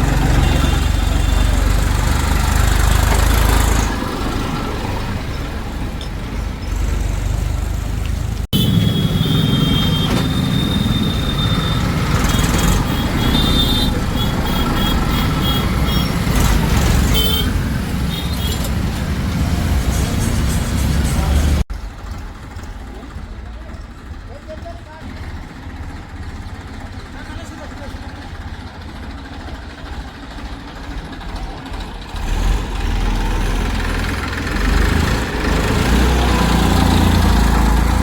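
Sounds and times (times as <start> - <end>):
diesel engines rumbling: 0.0 - 38.0.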